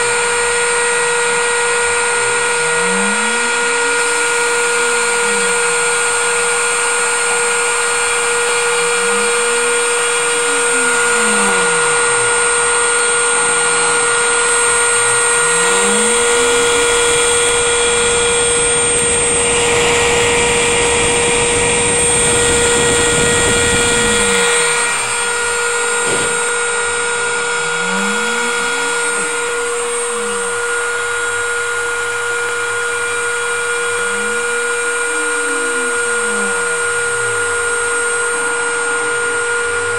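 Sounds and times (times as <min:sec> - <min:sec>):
spindle motor whine: 0:00.0 - 0:39.9
stepper motors whining: 0:00.0 - 0:39.9.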